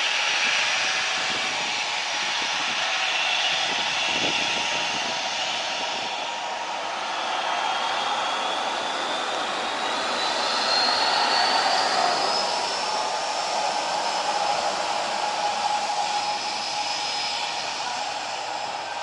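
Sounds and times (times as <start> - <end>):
jet engines at takeoff: 0.0 - 19.0.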